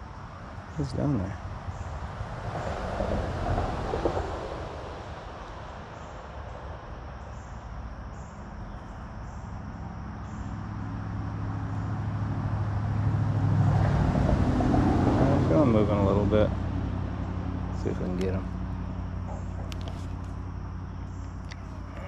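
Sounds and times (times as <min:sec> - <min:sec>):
faint outdoor background: 0:00.0 - 0:22.0
low engine hum: 0:00.0 - 0:22.0.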